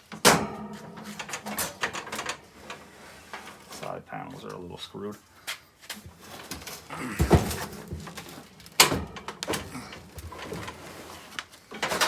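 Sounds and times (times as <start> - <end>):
metal cabinet knocking and scraping: 0.1 - 3.8, 6.1 - 12.0.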